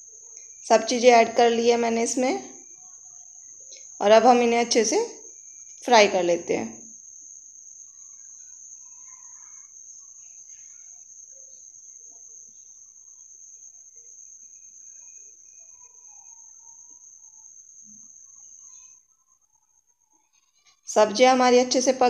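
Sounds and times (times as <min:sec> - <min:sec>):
steady high-pitched tone: 0:00.0 - 0:22.0.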